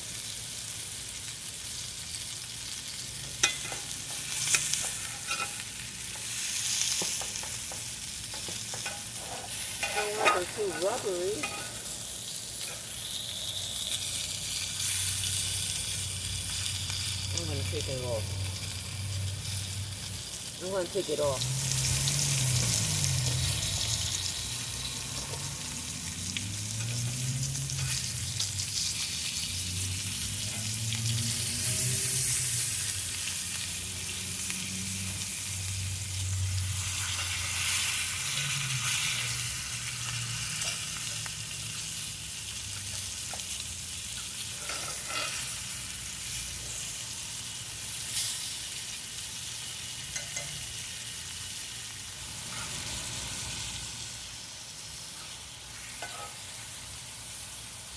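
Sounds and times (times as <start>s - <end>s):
meat sizzling in a pan: 0.0s - 57.9s.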